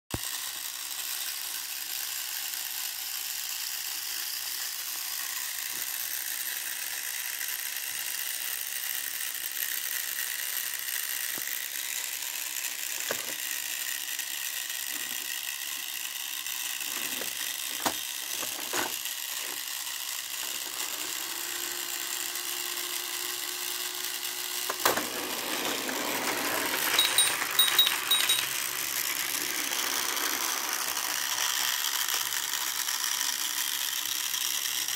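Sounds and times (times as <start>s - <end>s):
plastic toy train clicks: 0.2s - 21.3s, 25.7s - 34.9s.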